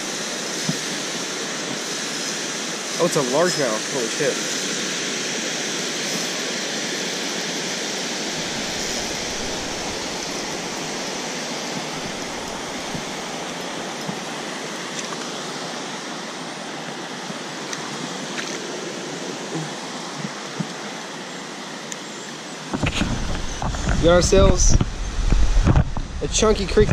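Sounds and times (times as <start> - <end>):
water rushing over spillway: 0.0 - 26.9.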